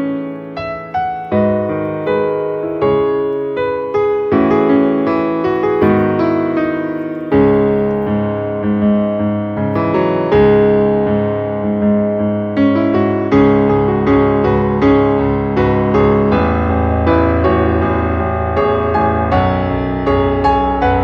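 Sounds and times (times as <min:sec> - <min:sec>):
gentle keyboard chords and melody: 0:00.0 - 0:21.0.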